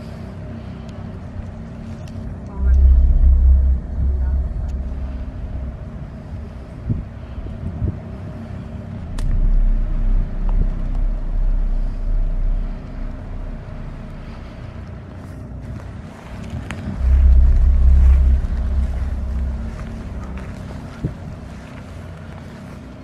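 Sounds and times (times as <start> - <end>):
car engine running: 0.0 - 23.0
low rumble: 0.0 - 23.0.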